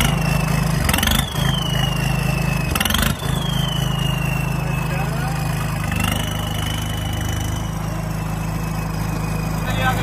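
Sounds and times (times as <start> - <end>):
turbo whistle: 0.0 - 9.6
diesel tractor engine idling: 0.0 - 10.0.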